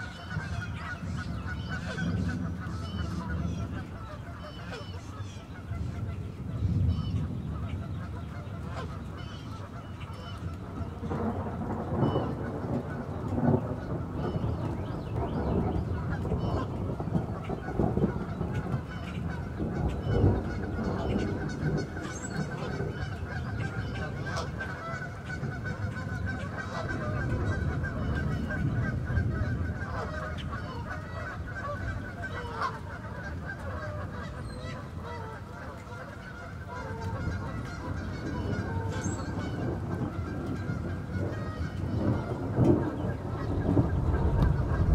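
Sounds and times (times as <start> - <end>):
continuous low rumble: 0.0 - 44.9
rain pattering on water: 0.0 - 44.9.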